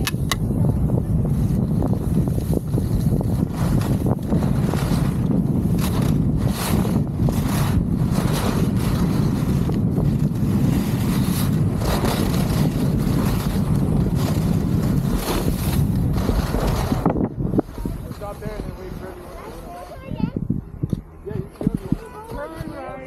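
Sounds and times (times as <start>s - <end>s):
wind buffeting microphone: 0.0s - 23.0s
skis scraping over snow: 0.8s - 20.2s.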